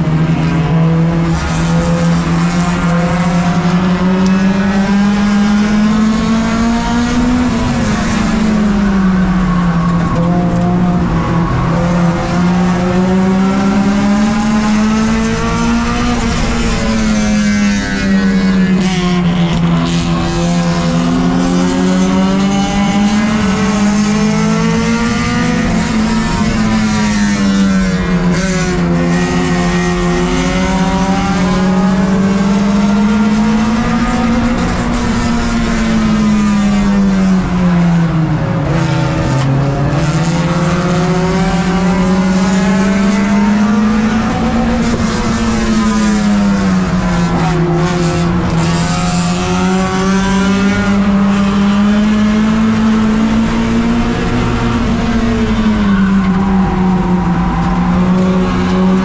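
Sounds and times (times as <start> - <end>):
race car engine: 0.0 - 59.0
tyre and road noise: 0.0 - 59.0.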